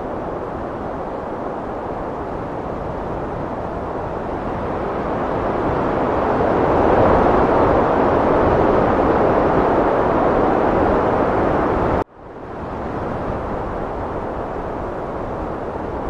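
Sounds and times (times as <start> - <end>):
heavy wind blowing: 0.0 - 16.0.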